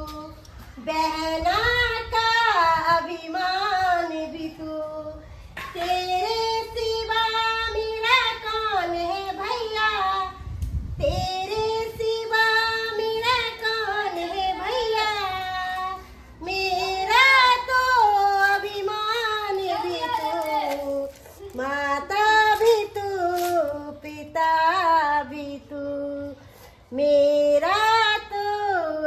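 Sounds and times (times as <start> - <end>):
woman singing high-pitched: 0.0 - 10.4, 11.0 - 29.0.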